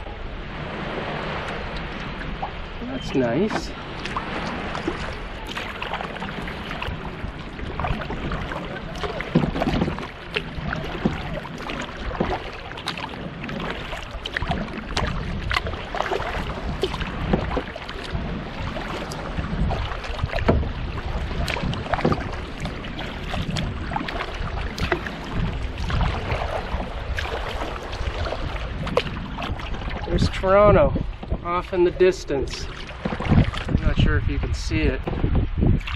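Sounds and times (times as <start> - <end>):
paddle splashing in water: 0.0 - 35.9
water lapping on hull: 0.0 - 35.9.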